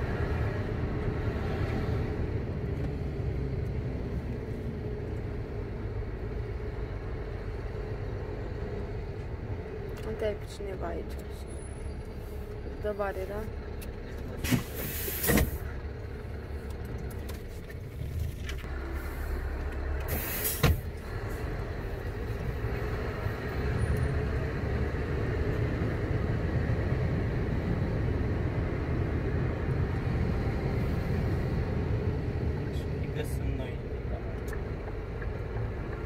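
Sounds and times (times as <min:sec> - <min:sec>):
truck diesel engine rumble: 0:00.0 - 0:36.0.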